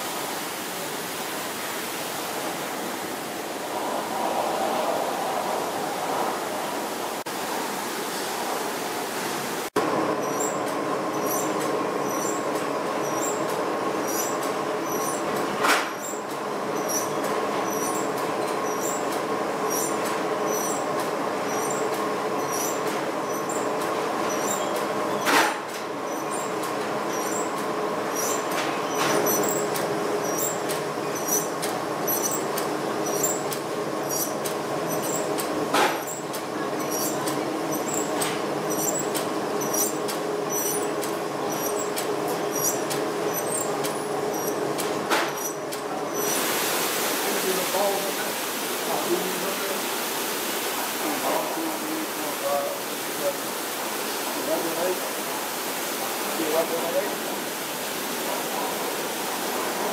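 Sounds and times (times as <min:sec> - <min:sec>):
factory machinery drone: 0:00.0 - 0:59.9.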